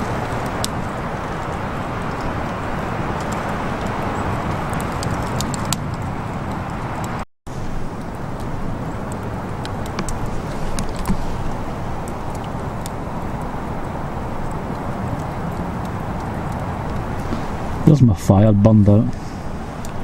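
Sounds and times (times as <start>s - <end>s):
campfire crackling and popping: 0.0s - 20.0s
steady rushing background noise: 0.0s - 20.0s.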